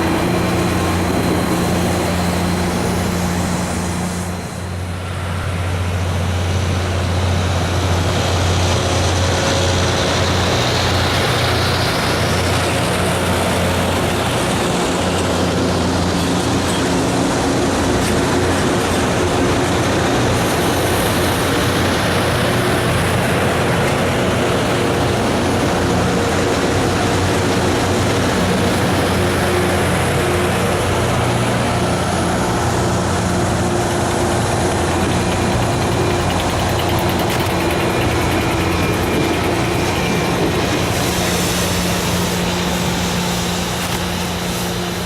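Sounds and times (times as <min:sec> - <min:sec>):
rail grinder diesel engine drone: 0:00.0 - 0:45.0.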